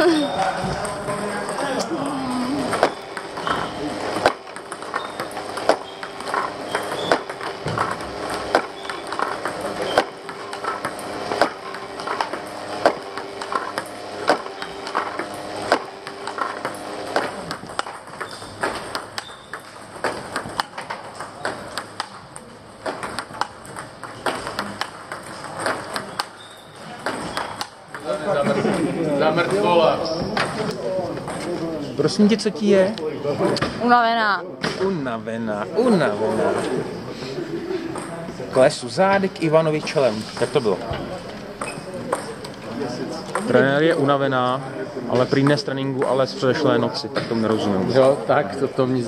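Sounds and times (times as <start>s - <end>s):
table tennis balls clicking: 0.0s - 32.4s, 37.8s - 44.5s, 45.1s - 46.3s.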